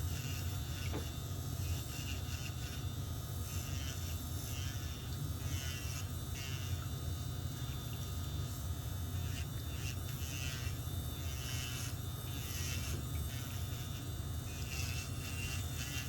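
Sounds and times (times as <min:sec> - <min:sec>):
drill bit grinding toenail: 0:00.0 - 0:07.0, 0:09.0 - 0:16.0
electric nail drill buzzing: 0:00.0 - 0:16.0.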